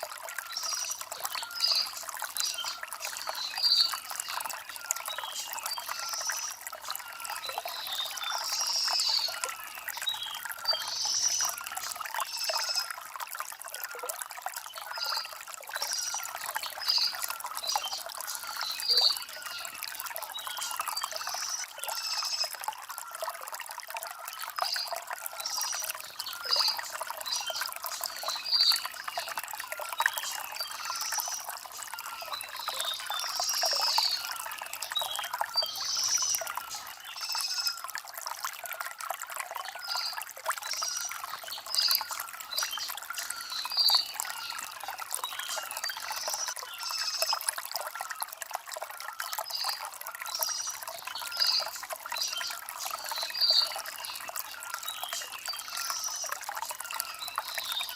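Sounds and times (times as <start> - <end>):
stream trickling over stones: 0.0 - 57.9.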